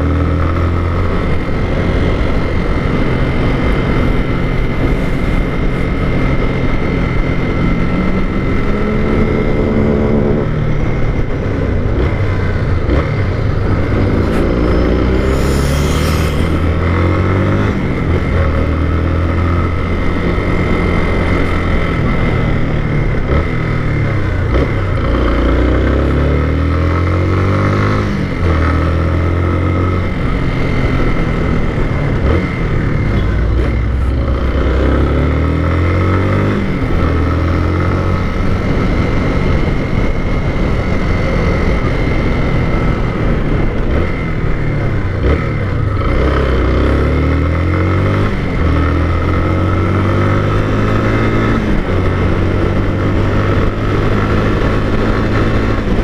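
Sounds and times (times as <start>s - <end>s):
motorcycle engine shifting gears: 0.0s - 56.0s.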